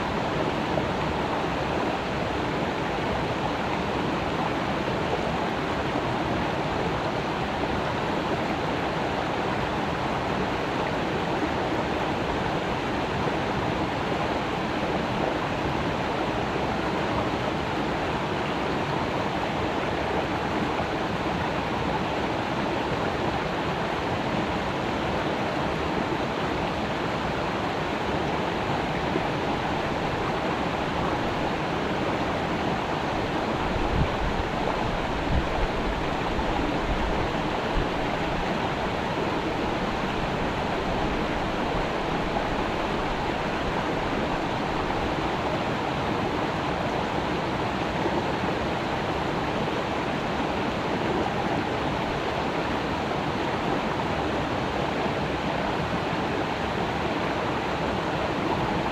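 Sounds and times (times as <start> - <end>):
creek water babbling: 0.0 - 58.9.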